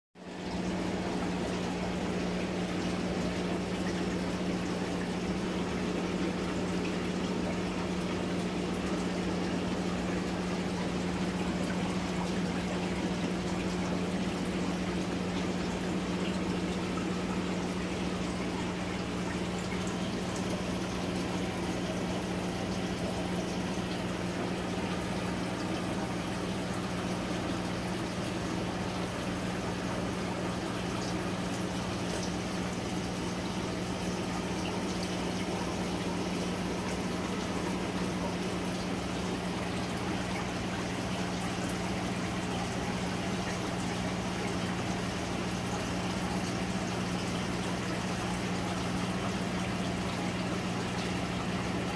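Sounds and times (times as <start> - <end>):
bubbling and trickling water: 0.2 - 51.9
constant low hum: 0.2 - 51.9.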